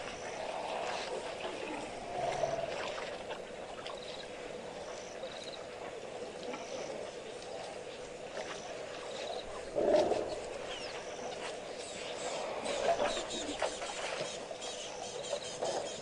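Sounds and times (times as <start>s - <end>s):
water sloshing and splashing: 0.0s - 14.7s
faint steady hum: 0.0s - 16.0s.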